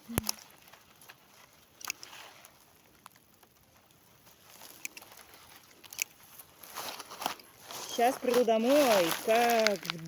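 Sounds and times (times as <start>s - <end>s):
faint rustling: 0.2s - 10.0s.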